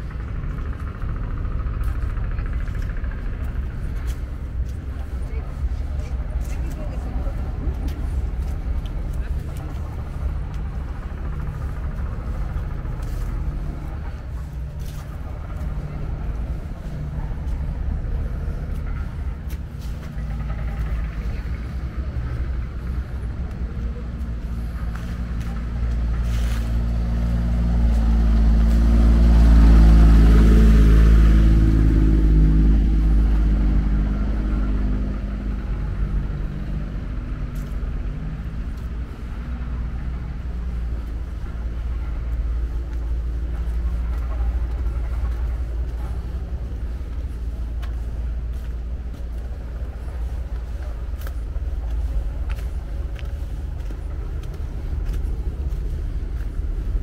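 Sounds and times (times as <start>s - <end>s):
low traffic rumble: 0.0s - 57.0s
vehicle passing by: 0.0s - 57.0s.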